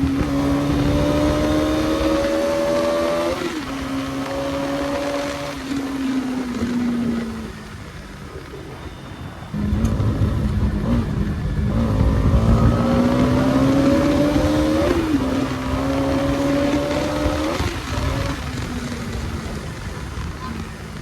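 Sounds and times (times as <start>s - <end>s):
motorcycle engine accelerating: 0.0s - 8.9s, 9.5s - 21.0s.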